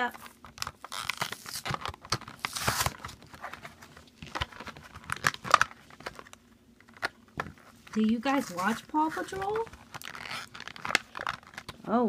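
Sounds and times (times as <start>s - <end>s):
plastic wrapper crinkling: 0.0s - 11.8s
plastic wrapper tearing: 0.1s - 3.6s, 4.2s - 7.2s, 7.9s - 11.8s.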